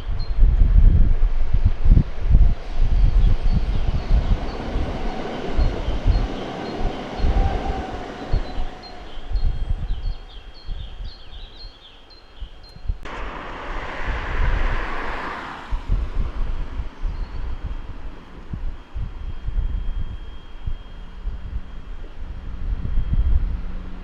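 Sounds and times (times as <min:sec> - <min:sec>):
train running: 0:00.0 - 0:24.0
wind gusting on microphone: 0:00.0 - 0:24.0.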